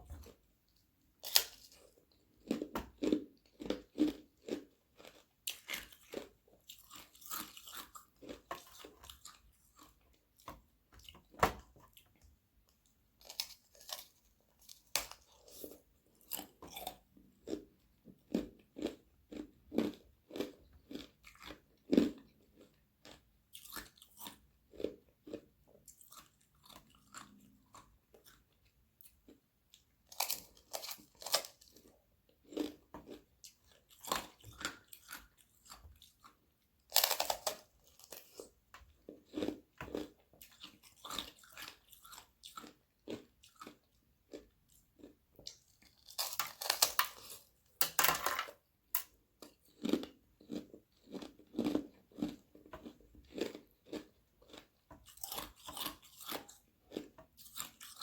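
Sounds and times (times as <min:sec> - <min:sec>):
crunching and chewing ice: 0:01.2 - 0:12.1, 0:12.8 - 0:48.0, 0:49.0 - 0:58.0.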